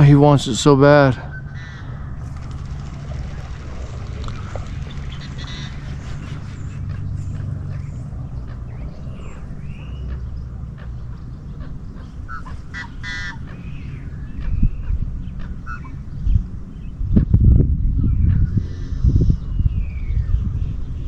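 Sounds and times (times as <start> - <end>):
bird honking call: 0.0 - 17.0, 18.3 - 21.0
bird chirps: 0.0 - 17.3, 18.0 - 21.0
low rumble: 0.0 - 21.0.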